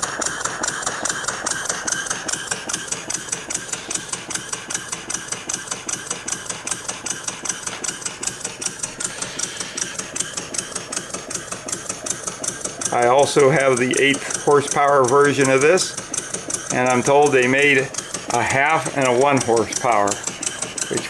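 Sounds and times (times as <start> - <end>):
stationary engine chuffing: 0.0 - 21.0.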